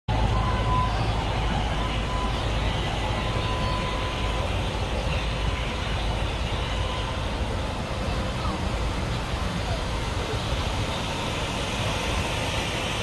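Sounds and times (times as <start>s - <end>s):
faint high whine: 0.1s - 13.0s
traffic rumble: 0.1s - 13.0s.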